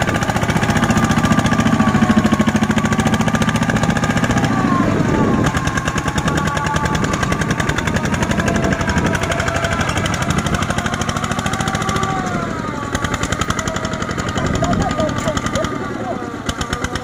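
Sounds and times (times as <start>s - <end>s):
diesel engine working hard: 0.0s - 17.0s.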